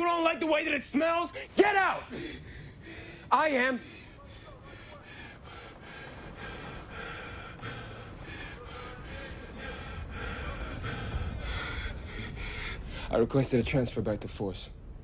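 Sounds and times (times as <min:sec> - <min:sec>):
low rumble: 0:02.1 - 0:15.0.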